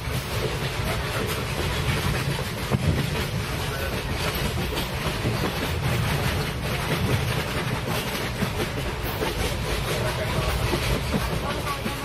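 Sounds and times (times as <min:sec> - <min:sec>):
train rumbling on rails: 0:00.0 - 0:12.0
train wheels clicking: 0:00.0 - 0:12.0.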